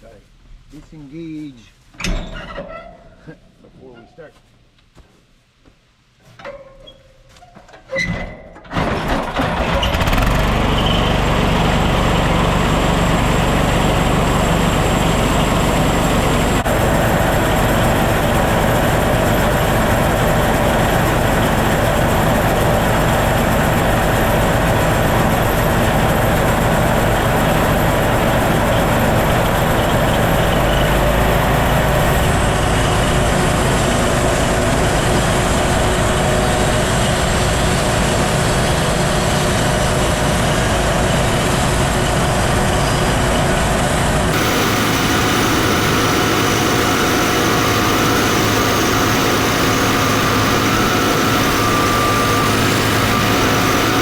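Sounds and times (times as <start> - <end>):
sawmill engine running: 8.8 - 54.0.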